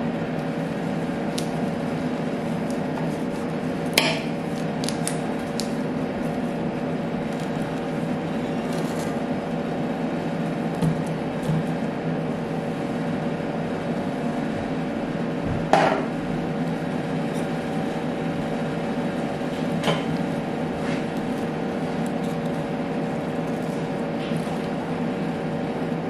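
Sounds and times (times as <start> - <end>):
refrigeration unit humming: 0.0 - 26.0.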